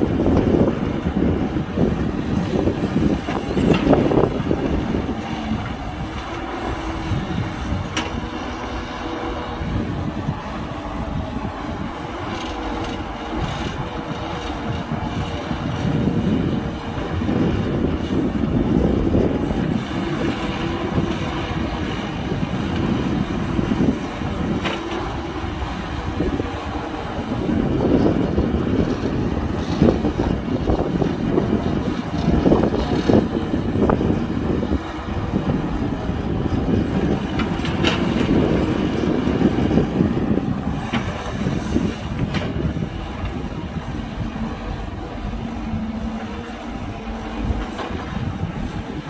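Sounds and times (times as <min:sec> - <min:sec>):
excavator diesel engine running: 0:00.0 - 0:49.0.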